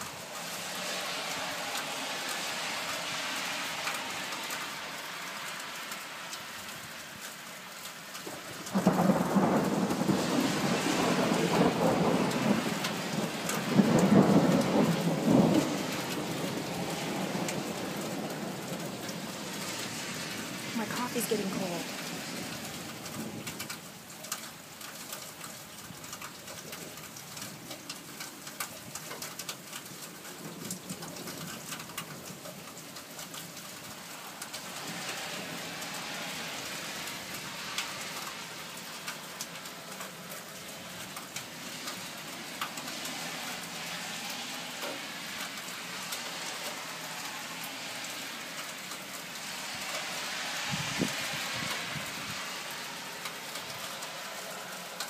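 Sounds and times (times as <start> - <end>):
steady rain falling: 0.0 - 55.0
sharp taps of raindrops: 1.7 - 55.0.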